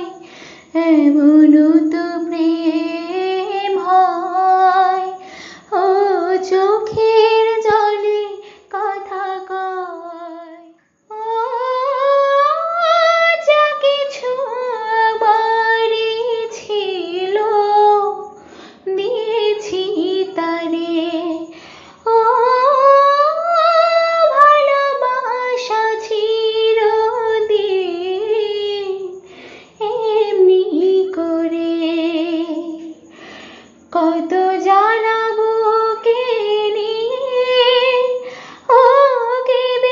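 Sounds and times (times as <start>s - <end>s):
woman singing unaccompanied: 0.0s - 39.9s.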